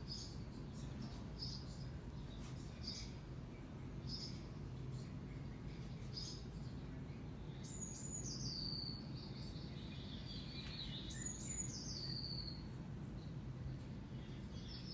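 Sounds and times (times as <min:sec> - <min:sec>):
low background hum: 0:00.0 - 0:14.9
songbird singing: 0:00.0 - 0:14.9.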